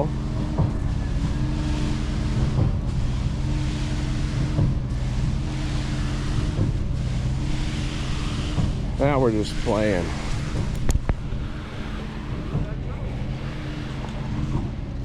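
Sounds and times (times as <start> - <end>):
engine running under load: 0.0 - 15.0
pump knocking: 0.0 - 15.0
steady hiss: 0.1 - 12.4.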